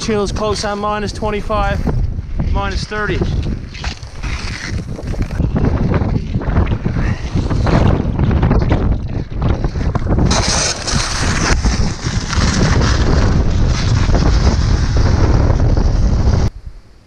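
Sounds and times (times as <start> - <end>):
storm wind on microphone: 0.0 - 17.0.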